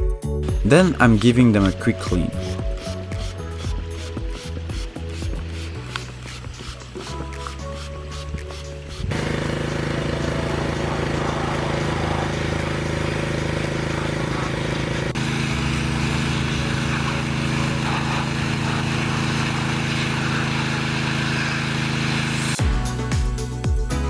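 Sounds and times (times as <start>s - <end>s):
petrol pressure washer running: 0.5s - 22.6s
water jet spraying metal: 0.8s - 22.6s.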